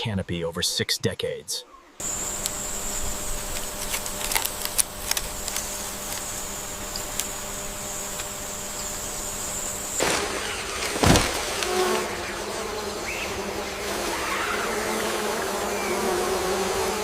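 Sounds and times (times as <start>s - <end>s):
high insect drone: 2.0s - 17.0s.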